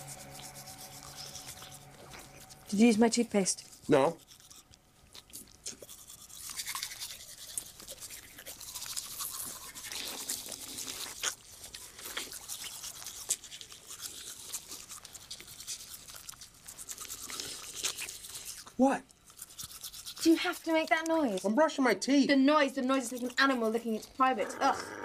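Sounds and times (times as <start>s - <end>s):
toothbrush scrubbing teeth: 0.0s - 24.9s.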